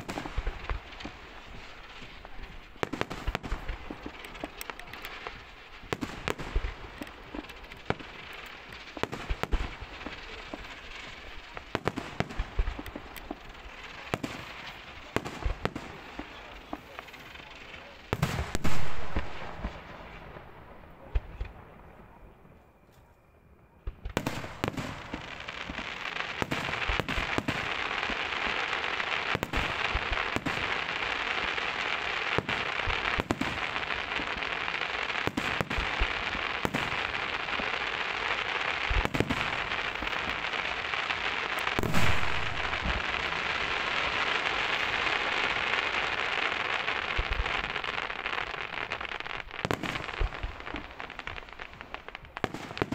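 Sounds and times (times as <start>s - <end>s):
fireworks bangs: 0.0s - 23.0s, 23.8s - 52.9s
fireworks crackling: 0.0s - 23.1s, 23.7s - 52.9s.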